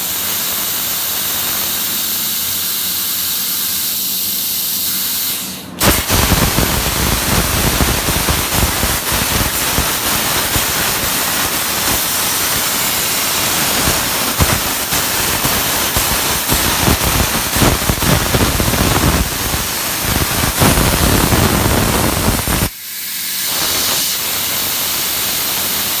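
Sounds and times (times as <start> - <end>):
air hissing from torch: 0.0 - 26.0
plasma cutter crackling hiss: 0.0 - 26.0.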